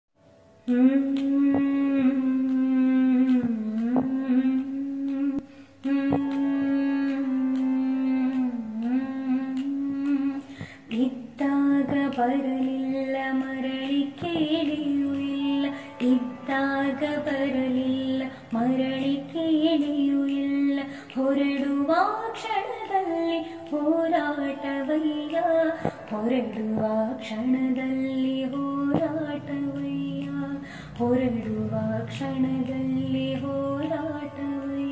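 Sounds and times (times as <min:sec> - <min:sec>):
woman singing solo: 0:00.6 - 0:34.9.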